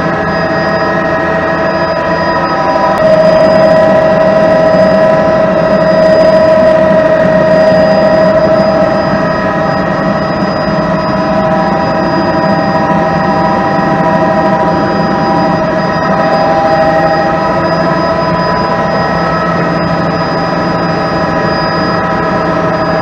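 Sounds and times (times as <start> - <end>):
helicopter turbine whine: 0.0 - 23.0
rotor and engine rumble: 0.0 - 23.0.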